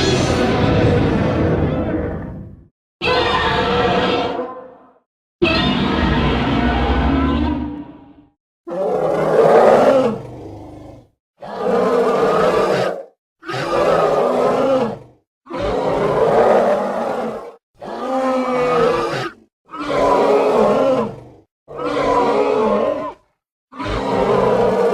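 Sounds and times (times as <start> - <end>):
roars: 0.0 - 24.9.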